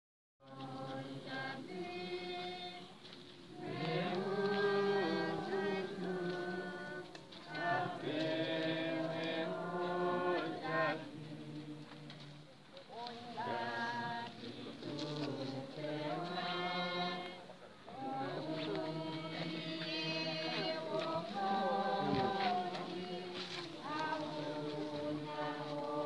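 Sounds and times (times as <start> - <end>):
group singing a slow song: 0.4 - 26.0.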